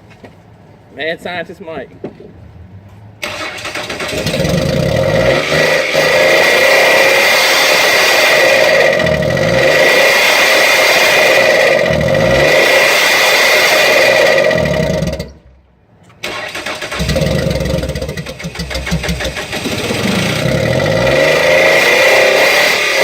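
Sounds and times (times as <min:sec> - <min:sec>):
car engine revving: 0:03.2 - 0:15.6, 0:16.2 - 0:23.0.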